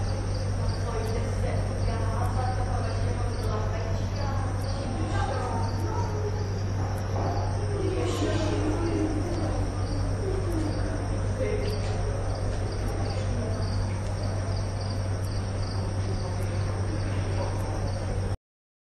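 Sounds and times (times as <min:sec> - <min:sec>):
faint distant voices: 0:00.0 - 0:18.4
low background hum: 0:00.0 - 0:18.4.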